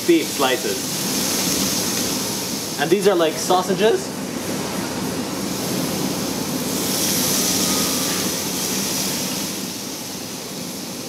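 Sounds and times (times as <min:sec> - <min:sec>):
meat sizzling on a grill: 0:00.0 - 0:03.8, 0:04.4 - 0:11.0.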